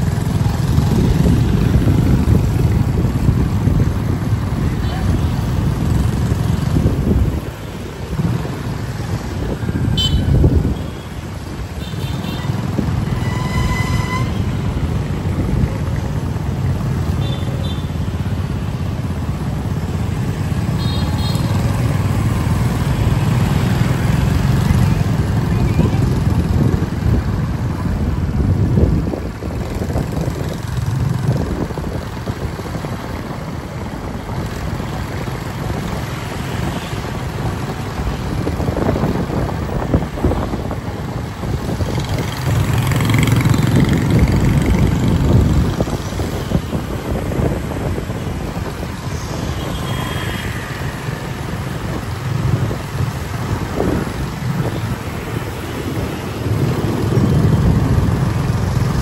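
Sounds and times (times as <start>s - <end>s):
low rumble of motor vehicles: 0.0s - 59.0s.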